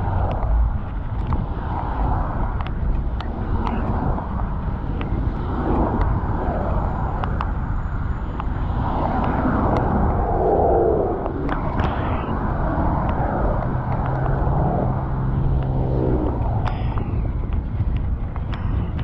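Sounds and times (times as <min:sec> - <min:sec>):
city street traffic: 0:00.0 - 0:19.0
wind rumble on microphone: 0:00.0 - 0:19.0.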